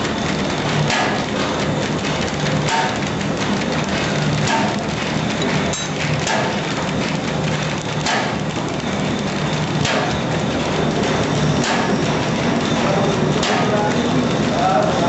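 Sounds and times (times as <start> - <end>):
machine clattering: 0.0 - 15.0.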